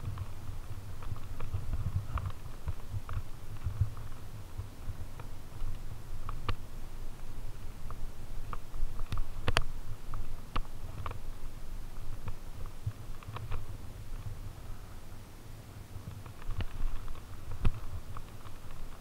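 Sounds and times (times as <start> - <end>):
bike rolling over dry leaves: 0.0 - 14.8, 16.0 - 19.0.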